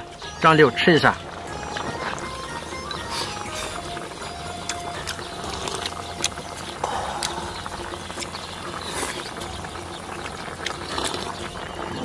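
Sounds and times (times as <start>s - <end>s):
low hum: 1.1s - 12.0s
chewing and smacking: 1.3s - 12.0s.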